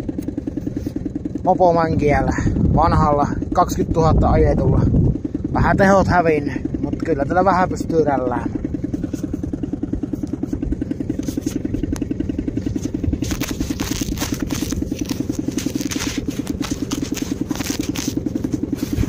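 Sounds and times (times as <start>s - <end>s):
small two-stroke engine idling: 0.0s - 19.0s.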